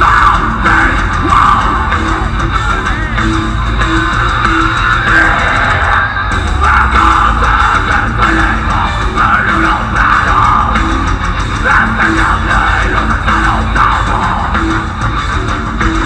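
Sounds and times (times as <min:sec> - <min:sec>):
bass guitar: 0:00.0 - 0:16.0
distorted electric guitars: 0:00.0 - 0:16.0
drum kit: 0:00.0 - 0:16.0.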